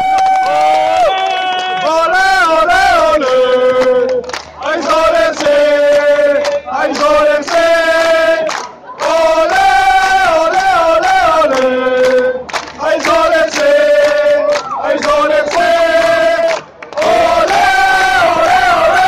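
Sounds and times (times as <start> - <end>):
crowd singing a chant: 1.8 - 19.0.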